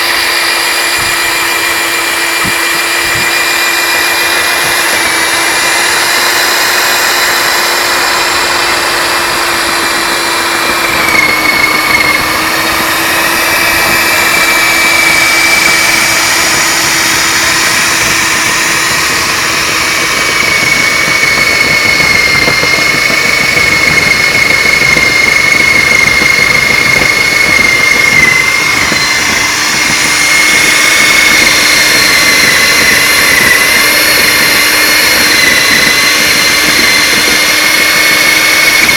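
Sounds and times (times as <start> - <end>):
drill motor whining: 0.0 - 38.9.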